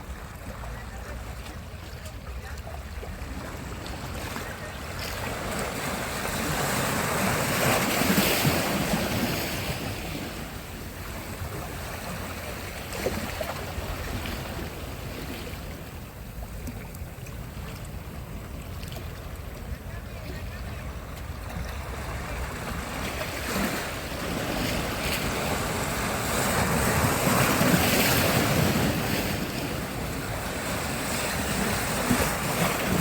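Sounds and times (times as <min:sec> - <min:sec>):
steady wash of water: 0:00.0 - 0:33.0
sea wave breaking: 0:02.4 - 0:33.0.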